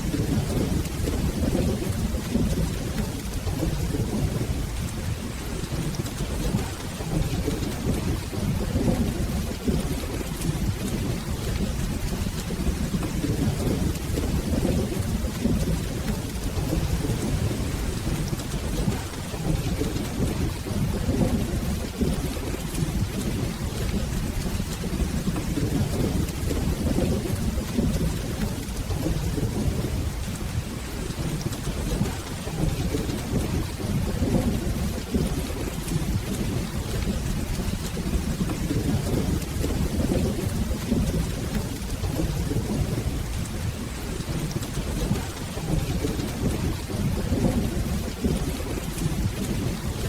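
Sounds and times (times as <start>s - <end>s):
rolling thunder: 0.0s - 50.0s
steady rain falling: 0.0s - 50.0s.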